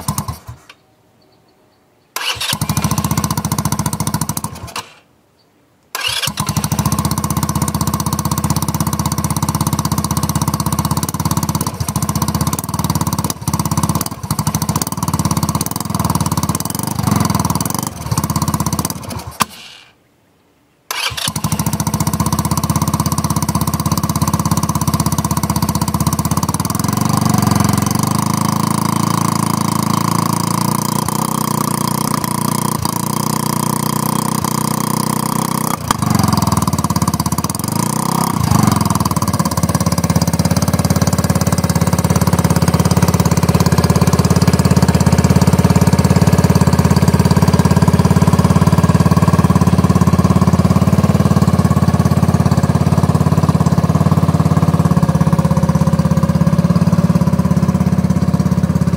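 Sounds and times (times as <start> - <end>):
dune buggy engine idling: 0.0 - 0.7, 2.2 - 5.0, 6.0 - 19.9, 20.9 - 58.9
engine revving: 0.0 - 0.7, 2.2 - 5.0, 6.0 - 19.8, 20.9 - 58.9.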